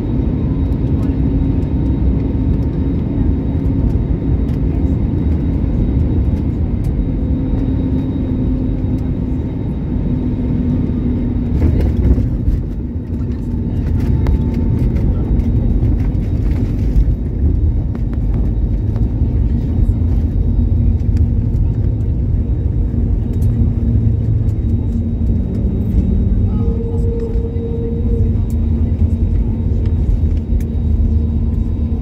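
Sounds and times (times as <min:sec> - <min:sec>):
engines and wheels rumbling: 0:00.0 - 0:32.0.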